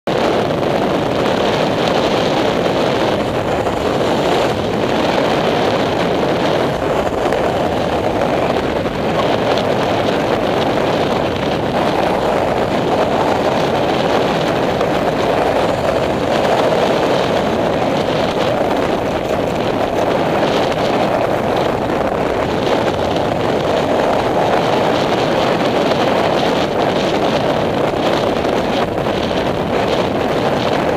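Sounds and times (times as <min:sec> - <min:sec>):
wind on microphone: 0:00.0 - 0:30.9
tyre and road noise: 0:00.1 - 0:30.9.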